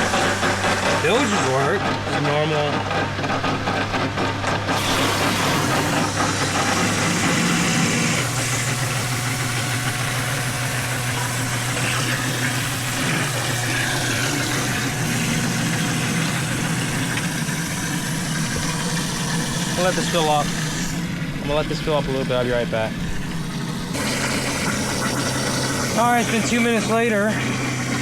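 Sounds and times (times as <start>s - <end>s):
hose water running into metal hull: 0.0s - 2.7s, 4.6s - 28.0s
low motor hum: 0.0s - 28.0s.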